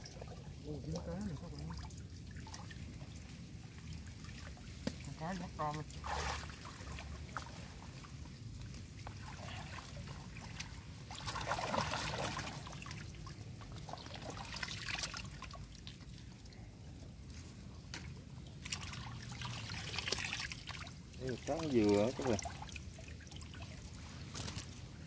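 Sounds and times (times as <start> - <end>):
man wading through water: 0.0 - 16.5, 17.2 - 25.0
water trickling and splashing: 0.0 - 25.0.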